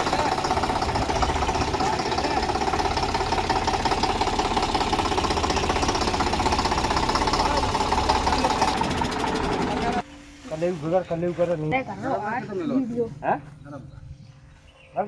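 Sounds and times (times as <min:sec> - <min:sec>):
tractor diesel engine running: 0:00.0 - 0:12.4.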